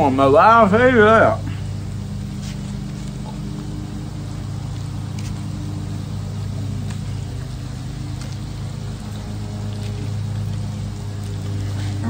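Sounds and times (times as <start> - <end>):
gas burner rumble: 0.0 - 12.0
fish frying in oil: 1.6 - 12.0.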